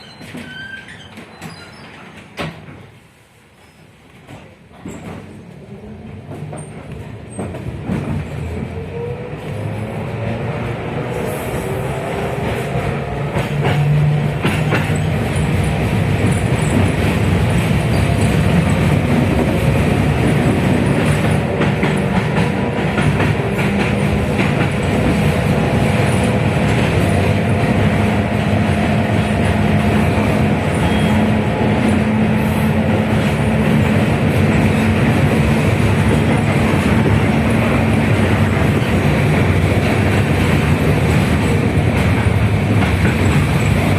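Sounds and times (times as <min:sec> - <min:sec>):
wheels rumbling on rail: 0:00.0 - 0:43.9.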